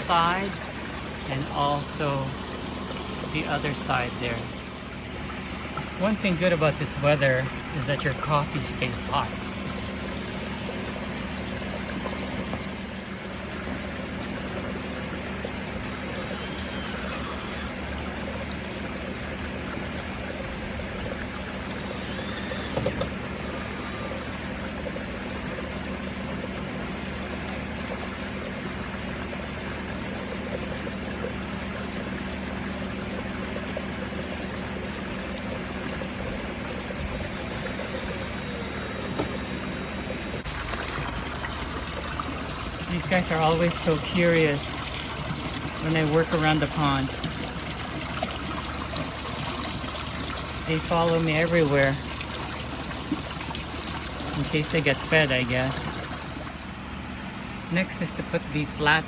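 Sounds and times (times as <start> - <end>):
low steady hum: 0.0 - 59.0
pond water trickling and splashing: 0.0 - 59.0.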